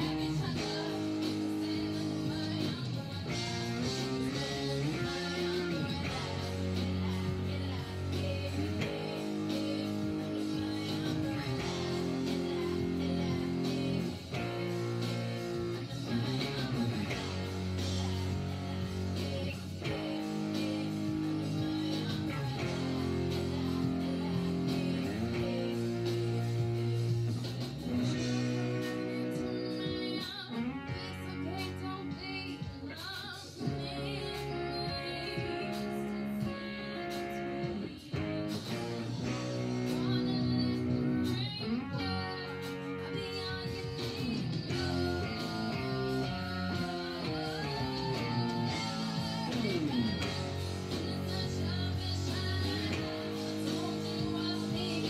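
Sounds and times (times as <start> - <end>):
electric guitar chords: 0.0 - 55.0.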